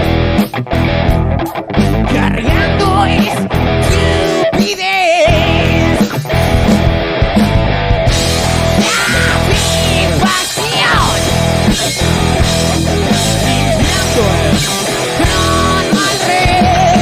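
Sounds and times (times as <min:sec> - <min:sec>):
rock band playing instrumental: 0:00.0 - 0:17.0.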